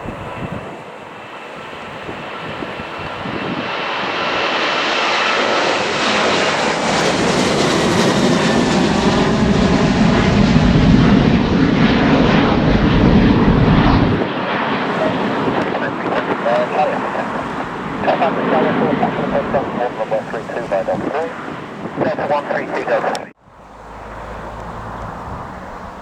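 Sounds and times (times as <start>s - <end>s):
jet airliner passing: 0.0s - 26.0s.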